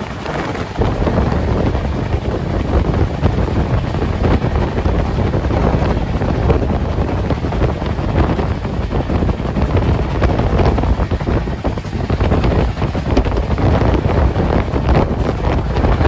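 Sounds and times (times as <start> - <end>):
passenger train rumbling: 0.0 - 16.0
wind on microphone: 0.0 - 16.0.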